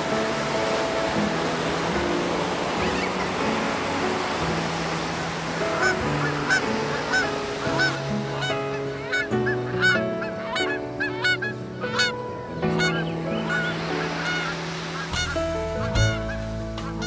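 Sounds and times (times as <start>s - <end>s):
birds honking: 0.0s - 17.0s
soft music chords: 0.0s - 17.0s.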